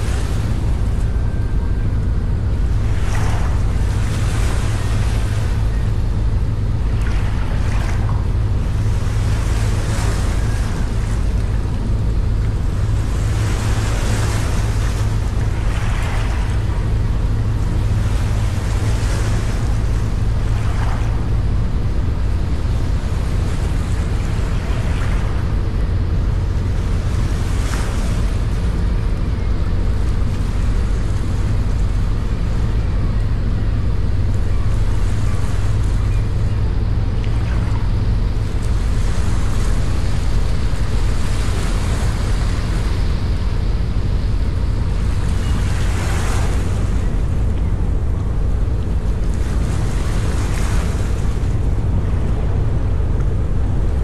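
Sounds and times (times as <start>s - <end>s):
boat engine rumble: 0.0s - 54.0s
water rushing along hull: 0.0s - 54.0s
wind noise on microphone: 0.0s - 54.0s.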